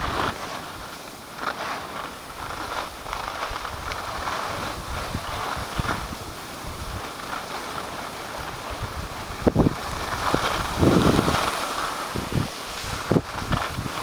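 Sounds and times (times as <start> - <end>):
skis scraping over packed snow: 0.0 - 14.0
wind rushing over microphone: 0.0 - 14.0.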